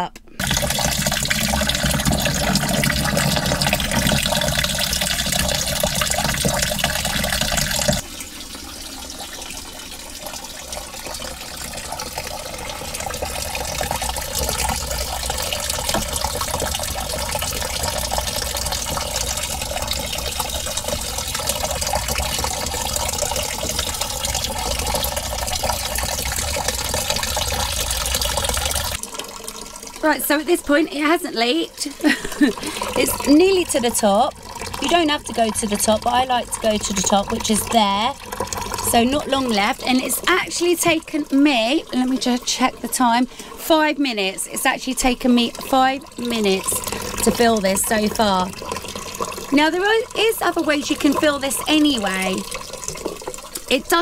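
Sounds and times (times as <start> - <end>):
water running into plastic tub: 0.3 - 54.0.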